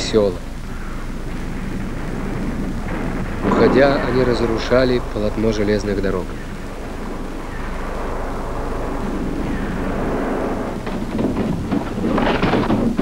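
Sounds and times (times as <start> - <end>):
railway track being torn up: 1.3 - 13.0.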